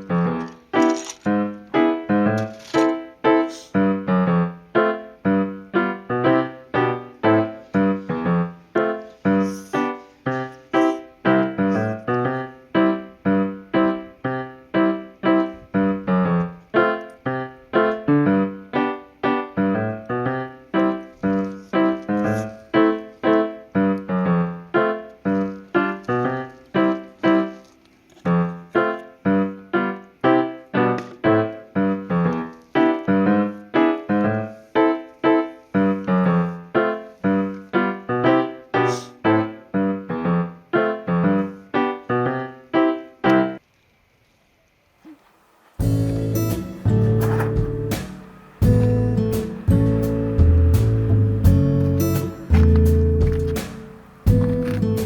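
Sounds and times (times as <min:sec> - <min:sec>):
piano music: 0:00.0 - 0:43.6, 0:45.8 - 0:55.0.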